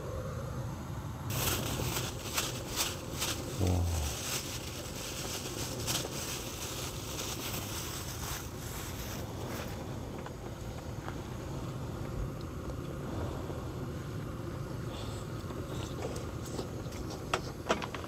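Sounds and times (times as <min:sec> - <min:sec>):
steady low rumbling noise: 0:00.0 - 0:17.0.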